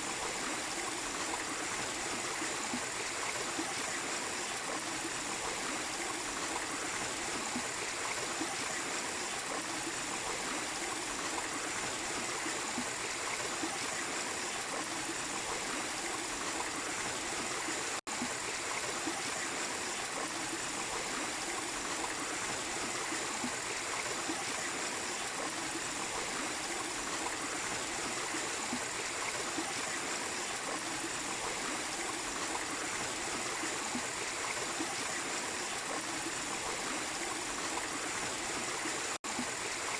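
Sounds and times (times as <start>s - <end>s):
waterfall and stream running: 0.0s - 39.9s.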